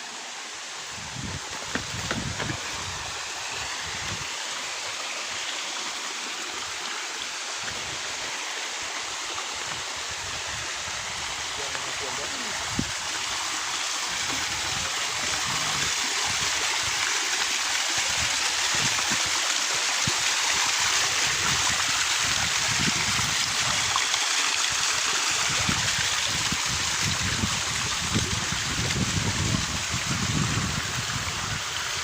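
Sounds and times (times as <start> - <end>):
waterfall pouring and splashing: 0.0 - 32.0.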